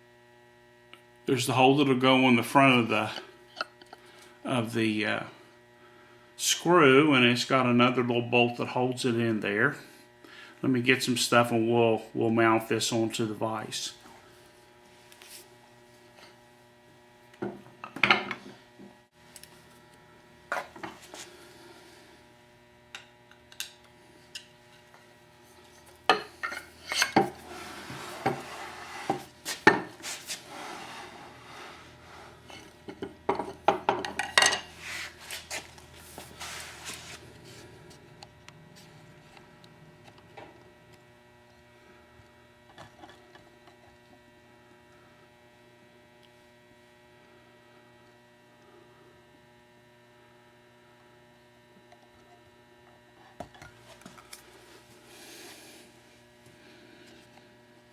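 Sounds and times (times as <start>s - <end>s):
steady hum: 0.0s - 57.9s.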